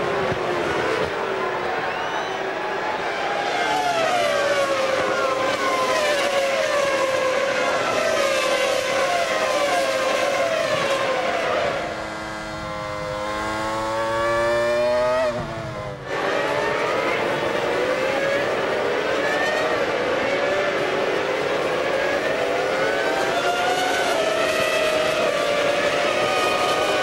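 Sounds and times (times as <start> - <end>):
racing cars passing by: 0.0 - 27.0
racing engine accelerating: 0.0 - 27.0.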